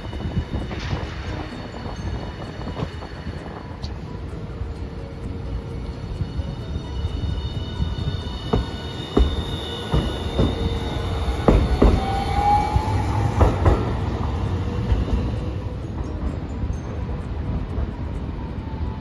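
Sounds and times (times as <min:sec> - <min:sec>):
tram wheels knocking on rail joints: 0:00.0 - 0:18.8
high wheel squeal: 0:00.0 - 0:19.0
tram passing: 0:00.0 - 0:19.0.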